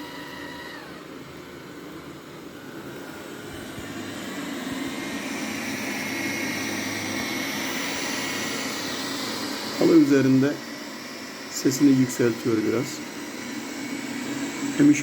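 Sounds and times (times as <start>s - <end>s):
robot vacuum fan whine: 0.0s - 15.0s.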